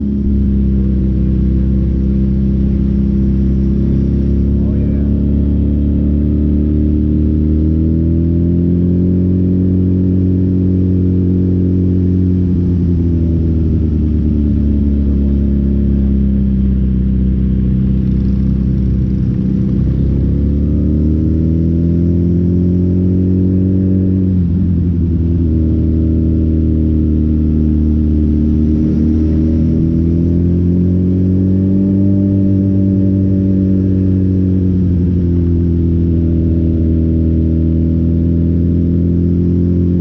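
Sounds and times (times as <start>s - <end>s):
motorcycle engine droning: 0.0s - 40.0s.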